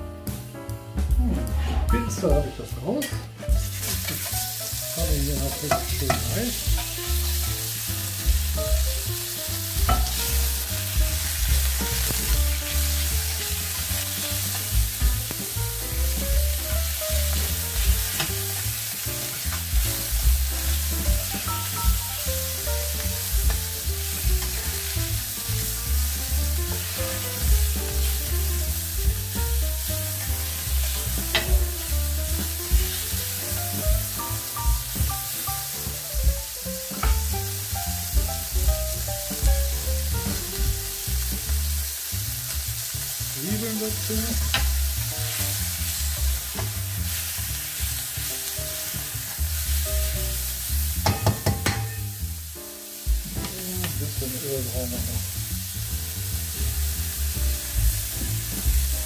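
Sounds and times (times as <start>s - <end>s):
meat sizzling in a pan: 2.2s - 59.0s.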